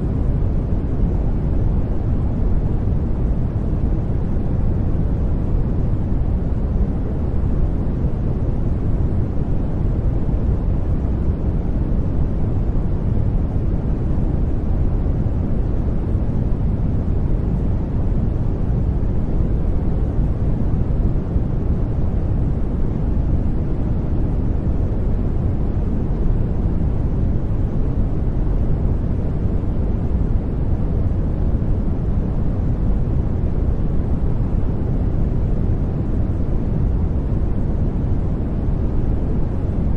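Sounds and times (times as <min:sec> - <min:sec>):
deep rumbling white noise: 0:00.0 - 0:39.9.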